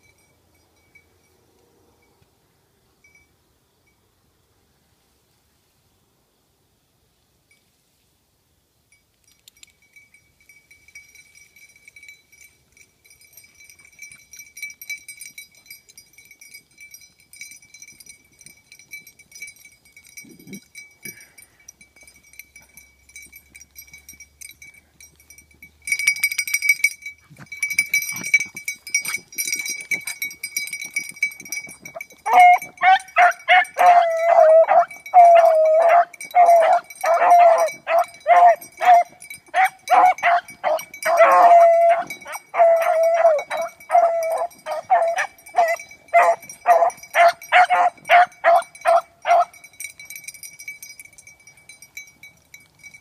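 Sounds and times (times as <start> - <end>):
collar bells jingling: 0.0 - 2.2, 3.0 - 4.0, 8.9 - 53.0.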